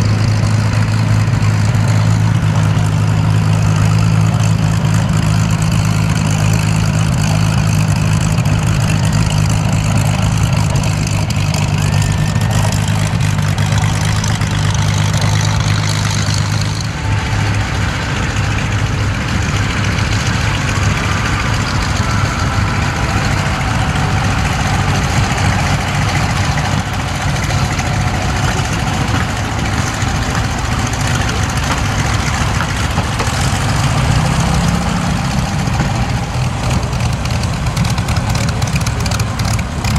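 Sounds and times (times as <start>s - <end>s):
piston aircraft engine drone: 0.0s - 39.9s.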